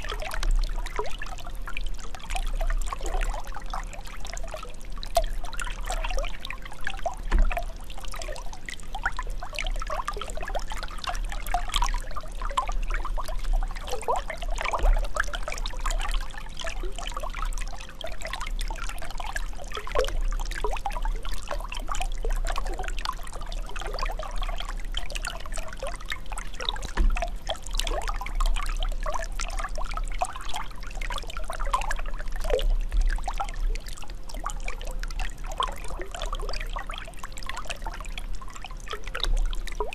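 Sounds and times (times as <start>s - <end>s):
bubbling gurgling water: 0.0s - 39.9s.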